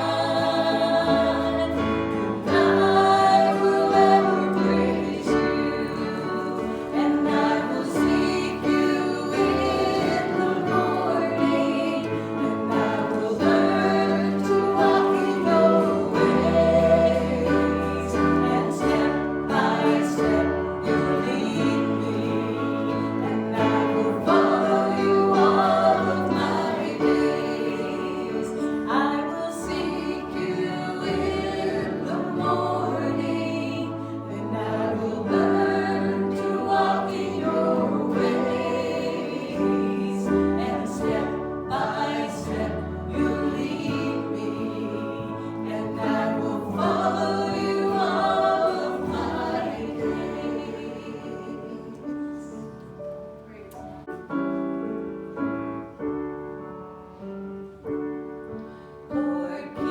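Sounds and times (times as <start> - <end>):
group singing worship song: 0.0 - 53.0, 58.6 - 59.9.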